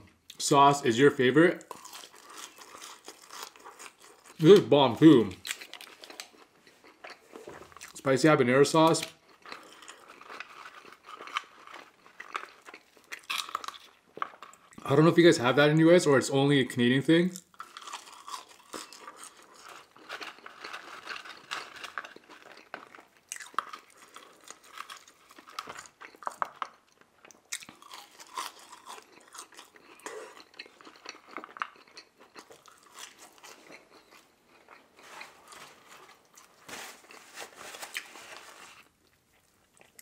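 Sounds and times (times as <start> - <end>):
chewing french fries: 1.5 - 8.0, 8.8 - 14.9, 17.3 - 37.1, 37.9 - 40.0.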